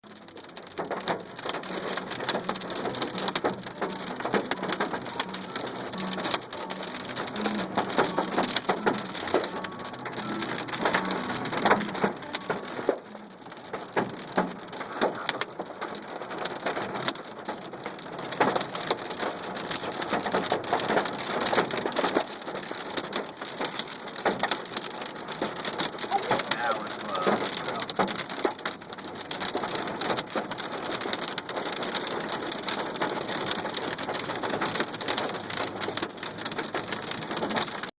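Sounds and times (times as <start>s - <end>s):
hailstones clattering: 0.1s - 37.9s
rain hissing: 0.2s - 37.9s.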